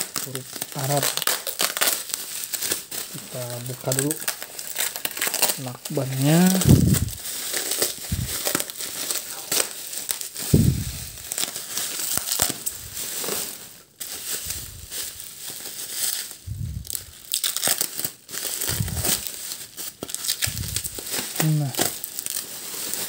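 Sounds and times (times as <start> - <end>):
bubble wrap crinkling: 0.0 - 23.0
packing tape tearing: 0.0 - 23.0.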